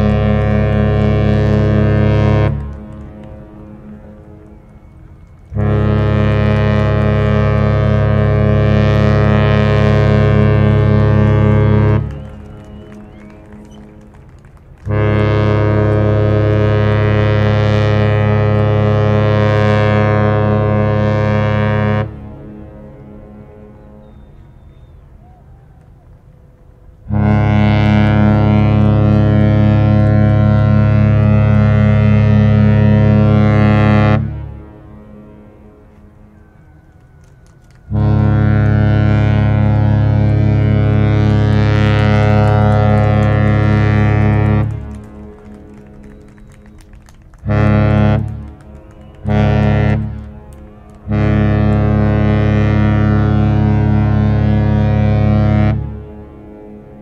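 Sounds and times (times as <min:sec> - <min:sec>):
ship horn blast: 0:00.0 - 0:57.0.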